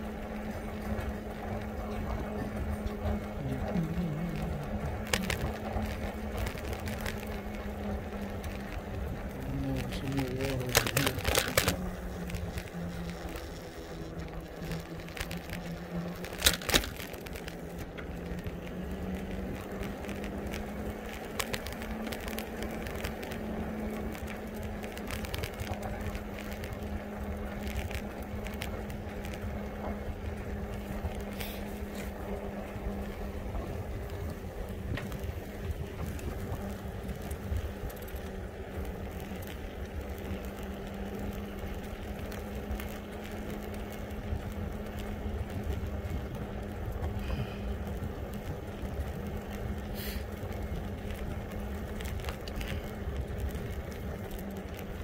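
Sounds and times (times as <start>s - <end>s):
electric bike motor humming: 0.0s - 55.0s
low wind: 0.0s - 55.0s
road rumble: 0.0s - 55.0s.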